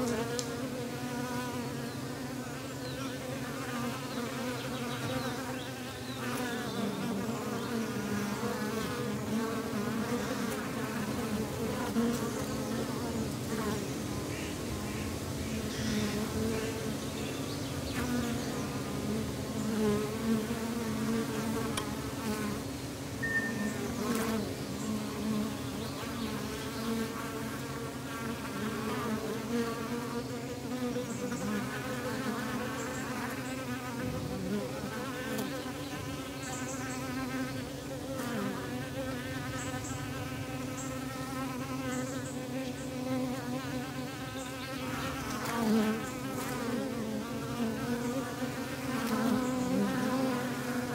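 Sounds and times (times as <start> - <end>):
bees buzzing: 0.0 - 50.9.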